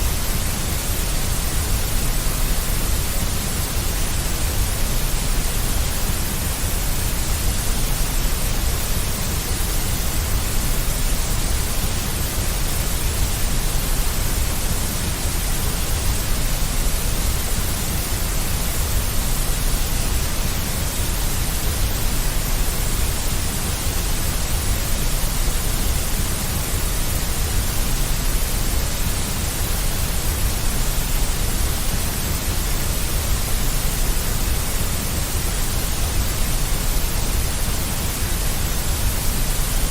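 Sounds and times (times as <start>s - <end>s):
deep white noise with rumble: 0.0s - 39.9s.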